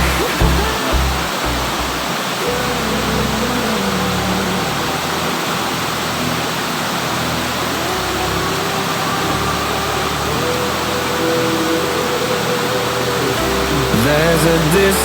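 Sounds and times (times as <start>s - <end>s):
background music: 0.0s - 15.0s
waterfall rushing: 0.0s - 15.0s.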